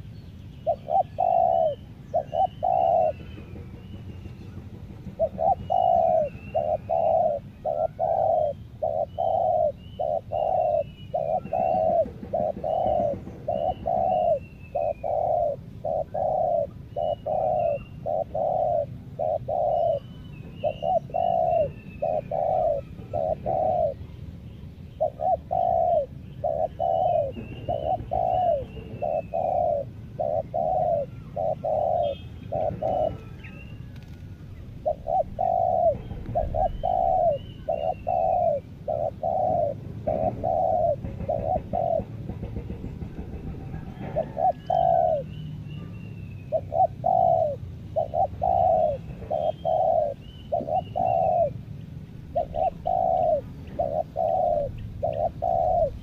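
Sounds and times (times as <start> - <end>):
dove cooing: 0.0 - 24.2, 24.9 - 56.0
small birds chirping: 0.0 - 42.4, 44.0 - 56.0.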